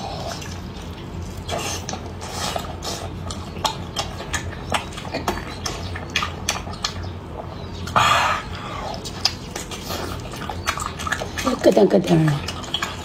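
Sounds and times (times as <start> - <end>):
wet chewing smacks: 0.0 - 13.0.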